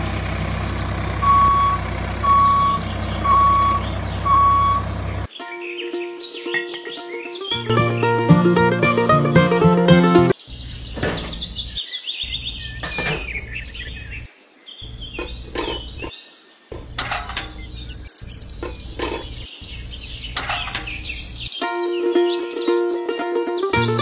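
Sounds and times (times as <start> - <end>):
birds chirping: 0.0 - 8.6, 10.2 - 24.0.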